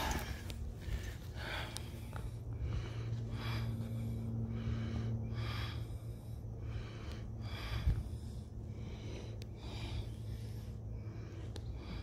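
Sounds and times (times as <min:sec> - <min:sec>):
breathing close to microphone: 0:00.0 - 0:12.0
steady low hum: 0:00.0 - 0:12.0.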